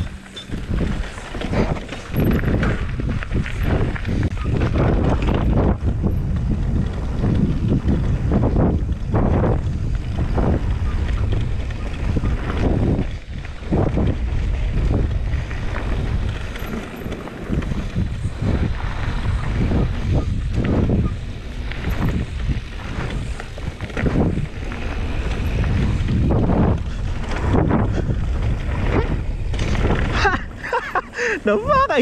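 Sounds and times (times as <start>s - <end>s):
bike rattling over bumps: 0.0s - 32.0s
tyre rumble: 0.0s - 32.0s
wind rushing over microphone: 0.0s - 32.0s.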